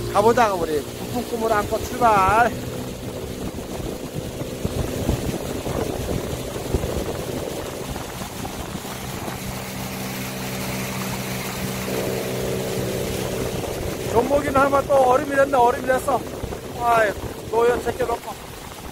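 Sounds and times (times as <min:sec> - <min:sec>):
boat motor droning: 0:00.0 - 0:18.9.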